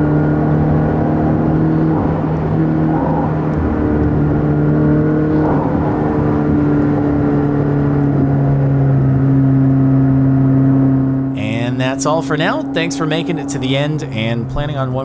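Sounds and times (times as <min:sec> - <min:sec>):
car engine drone: 0:00.0 - 0:15.0
tyre and road noise: 0:00.0 - 0:15.0.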